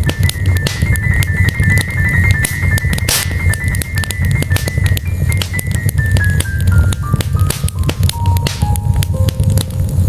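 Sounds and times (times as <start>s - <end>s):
faint simple melody: 0.0s - 10.0s
fire crackling and popping: 0.0s - 10.0s
low rumble of burning logs: 0.0s - 10.0s.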